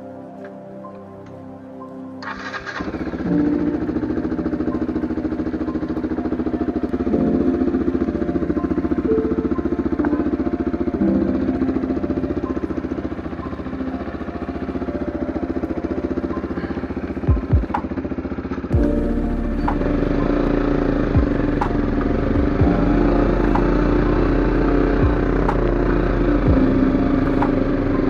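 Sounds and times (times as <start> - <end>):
motorcycle engine pulling away: 2.2 - 28.0.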